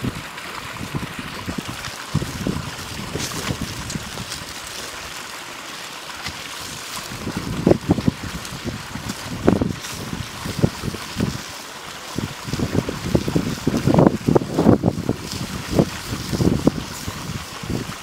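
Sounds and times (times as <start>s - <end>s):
wood fire crackling: 1.6s - 5.1s, 6.2s - 18.0s.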